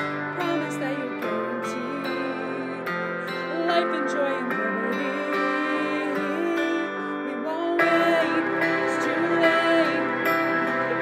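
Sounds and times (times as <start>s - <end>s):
instrumental backing music: 0.0s - 11.0s
woman singing: 0.0s - 11.0s.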